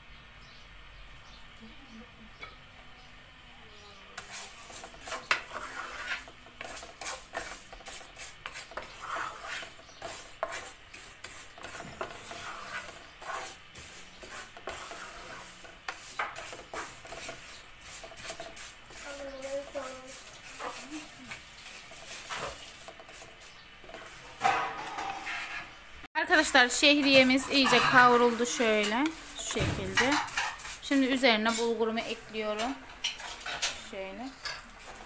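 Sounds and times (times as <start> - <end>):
noodles sizzling in oil: 4.2 - 25.1, 26.1 - 35.0
spoon scraping and knocking pot: 4.2 - 25.8, 26.4 - 35.0.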